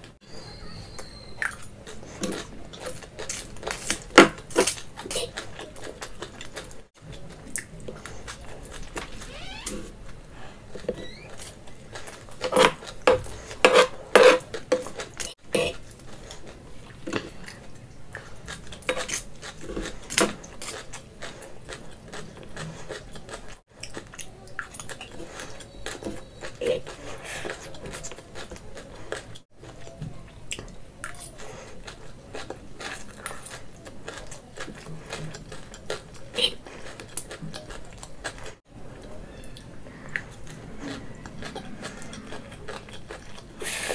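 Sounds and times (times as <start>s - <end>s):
chewing: 1.0s - 9.3s, 10.0s - 43.9s.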